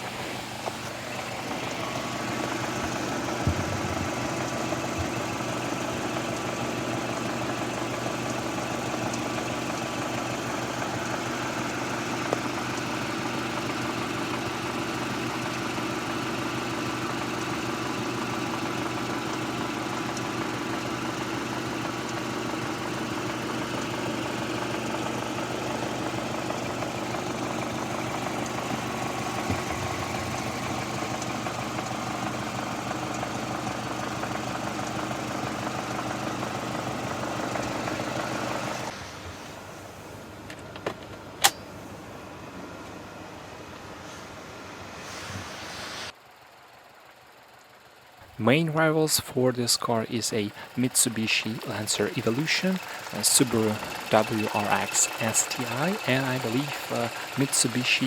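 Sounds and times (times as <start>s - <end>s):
car engine idling: 0.0s - 45.0s, 46.1s - 58.0s.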